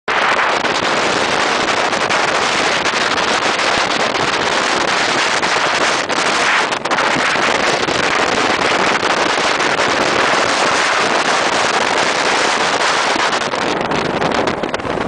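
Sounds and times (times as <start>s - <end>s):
motorboat running: 0.1s - 15.0s
wind hitting microphone: 0.1s - 15.0s.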